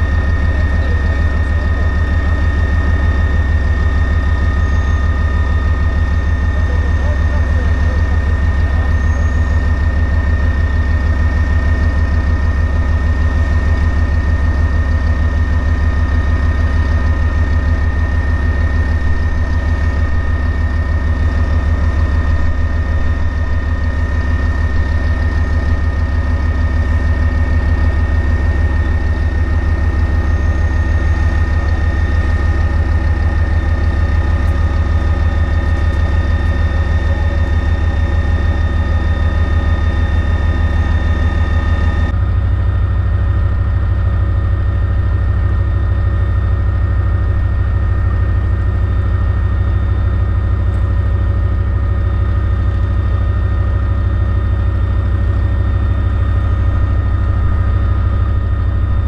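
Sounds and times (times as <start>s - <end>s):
diesel engine idling: 0.0s - 59.0s
high steady whine: 0.0s - 59.0s.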